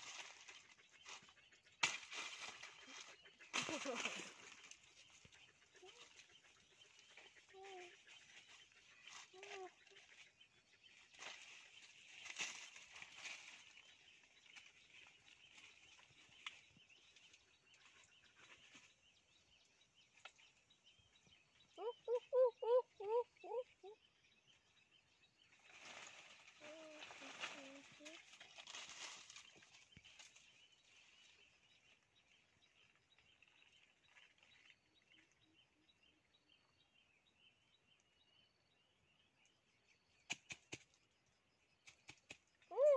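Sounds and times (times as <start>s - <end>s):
faint high bird chirps: 0.1s - 42.9s.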